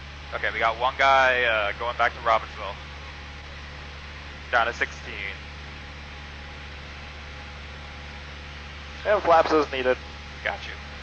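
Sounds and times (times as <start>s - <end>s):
aircraft piston engine drone: 0.0s - 11.0s.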